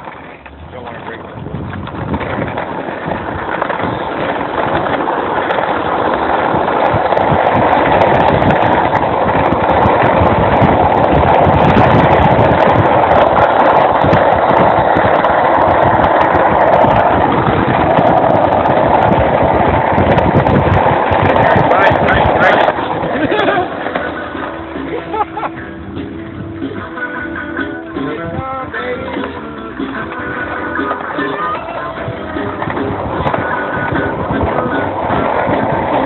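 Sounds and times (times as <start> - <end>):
road noise: 0.0 - 36.0
rushing wind: 0.0 - 36.0.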